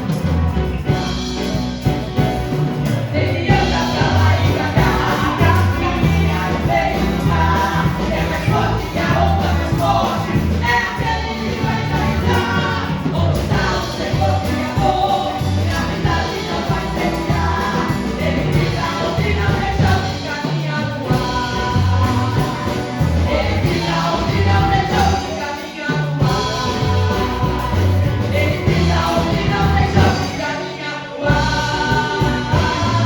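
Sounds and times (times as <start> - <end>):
band with steady beat: 0.0 - 30.7, 31.3 - 33.0
women singing gospel song: 3.0 - 33.0.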